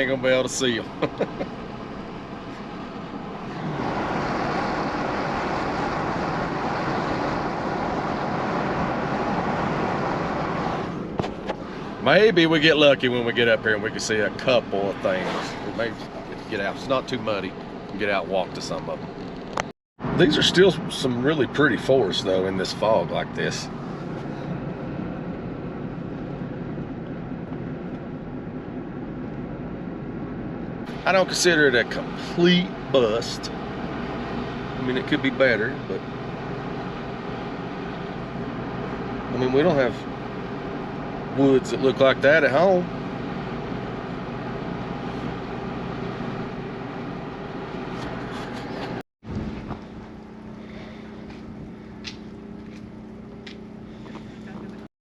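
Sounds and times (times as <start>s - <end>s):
road and wind noise: 0.0s - 54.9s.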